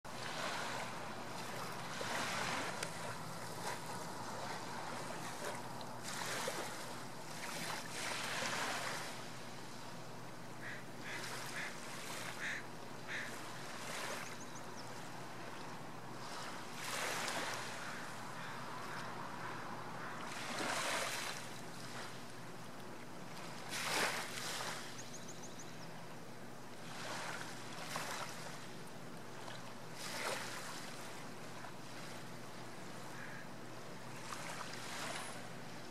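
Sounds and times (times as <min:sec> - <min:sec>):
small waves lapping: 0:00.1 - 0:25.3, 0:26.0 - 0:35.9.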